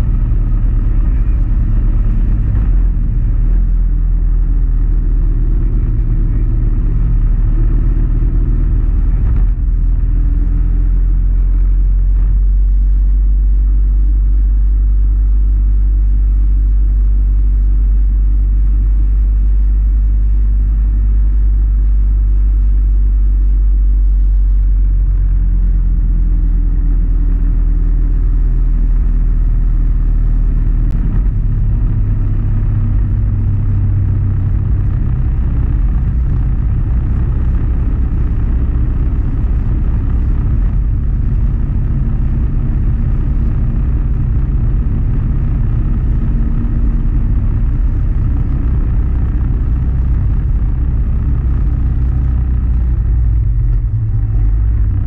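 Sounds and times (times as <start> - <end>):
motorcycle engine running: 0.0 - 55.0
wind rumble on microphone: 0.0 - 55.0.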